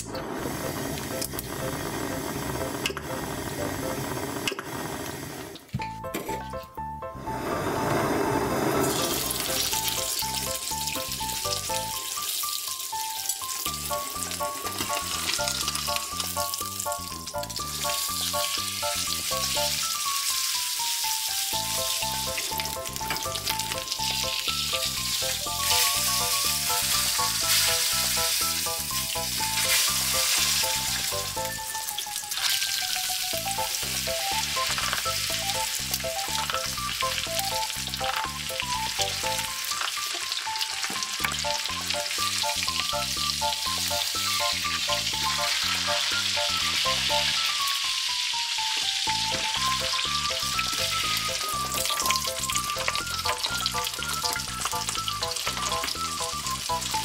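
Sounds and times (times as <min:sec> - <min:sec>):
steak sizzling in a pan: 0:08.6 - 0:57.0
background music with a beat: 0:09.2 - 0:57.0.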